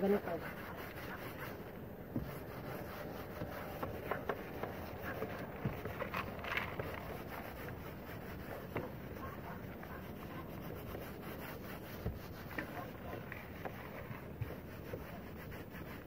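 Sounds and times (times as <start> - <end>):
paper towel rubbing: 0.0 - 16.0.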